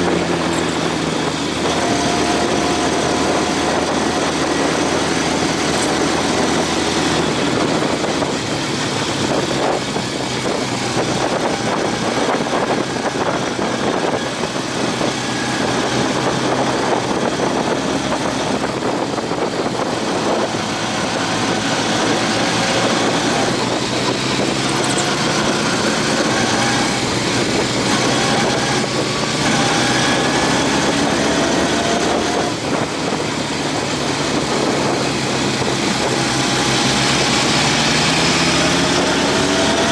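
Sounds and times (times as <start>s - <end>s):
motorcycle engine at speed: 0.0s - 39.9s
wind and road rush: 0.0s - 39.9s.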